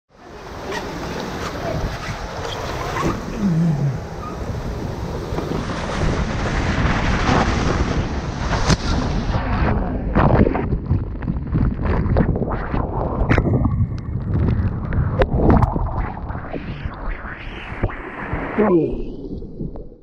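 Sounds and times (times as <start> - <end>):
wind buffeting microphone: 1.2 - 18.6.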